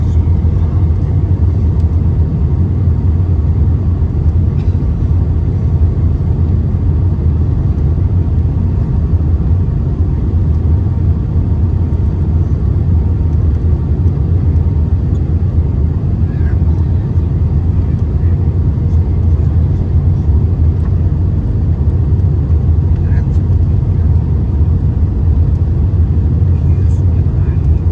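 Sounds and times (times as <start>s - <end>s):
airliner cabin engine rumble: 0.0s - 27.9s.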